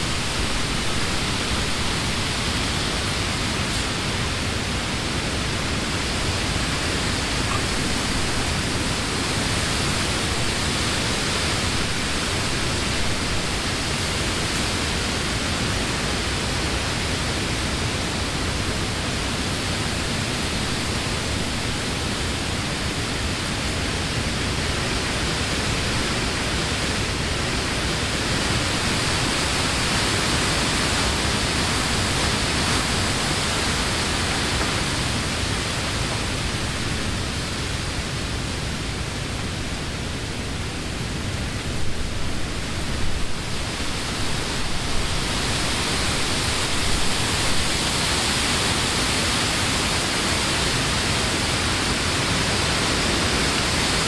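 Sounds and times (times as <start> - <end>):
wind through tree leaves: 0.0 - 54.0.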